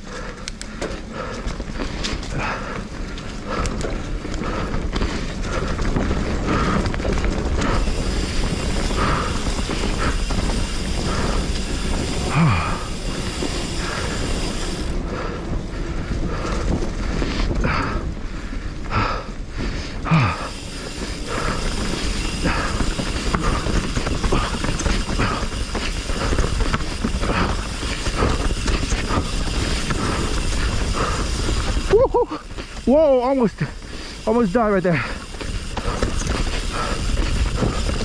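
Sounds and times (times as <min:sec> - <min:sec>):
bike clattering over bumps: 0:00.0 - 0:38.0
tyres rumbling on dirt and rock: 0:00.0 - 0:38.0.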